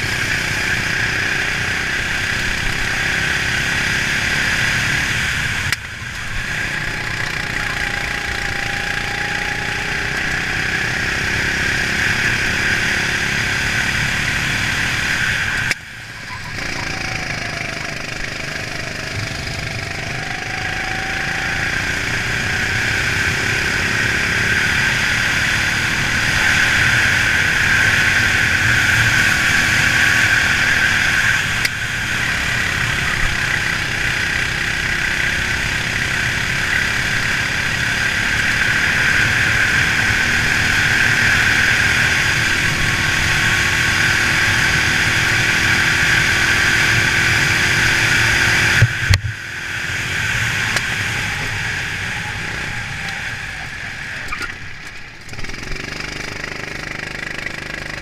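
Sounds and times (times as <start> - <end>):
racing kart engine running: 0.0 - 58.0.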